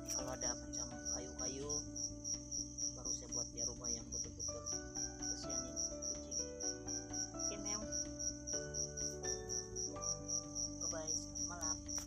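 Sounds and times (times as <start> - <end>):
crickets chirping: 0.0 - 12.0
soft music of held notes: 0.0 - 12.0.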